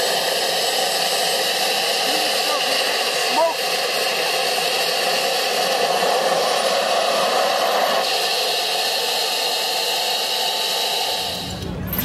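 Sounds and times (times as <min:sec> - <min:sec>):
gas turbine engine hissing: 0:00.0 - 0:12.0.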